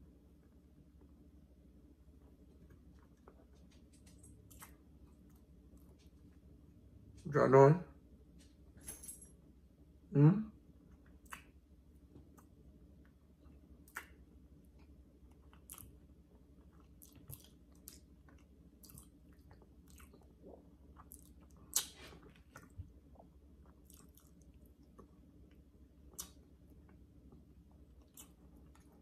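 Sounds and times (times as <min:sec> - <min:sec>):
man chewing food: 0:01.9 - 0:07.2, 0:10.6 - 0:29.0.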